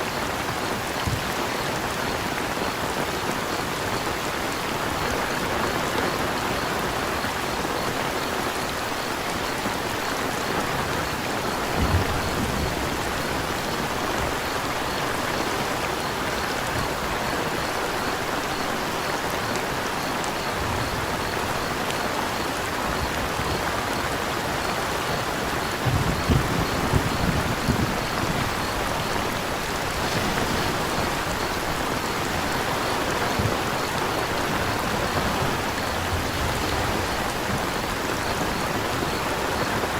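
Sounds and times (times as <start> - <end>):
crickets chirping: 0.0 - 39.9
steady rain falling: 0.0 - 39.9.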